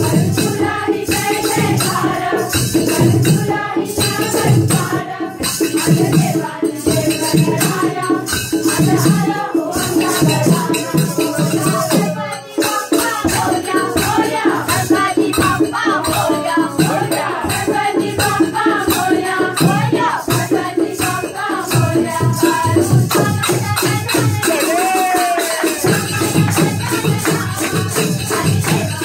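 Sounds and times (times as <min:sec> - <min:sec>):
jingling rattling percussion: 0:00.0 - 0:29.0.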